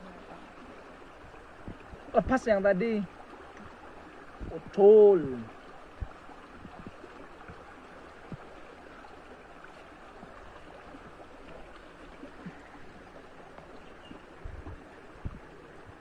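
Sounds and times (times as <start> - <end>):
stream running over stones: 0.0 - 16.0.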